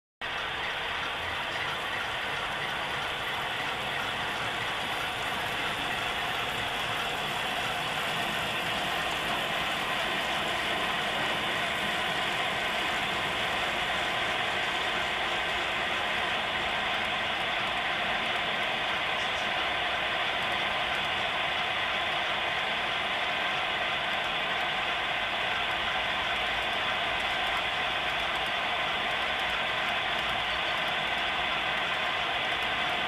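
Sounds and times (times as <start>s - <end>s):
rapid mechanical clatter: 0.2s - 33.0s.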